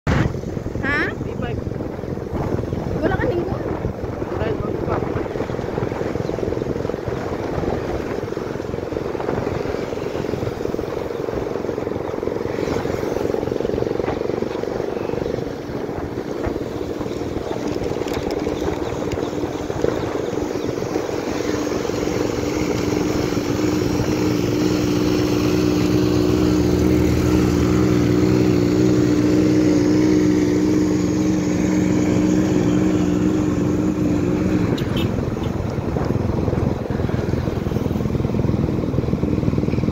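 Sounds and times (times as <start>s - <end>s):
motorcycle engine cruising: 0.0s - 39.9s
wind buffeting microphone: 0.1s - 39.9s.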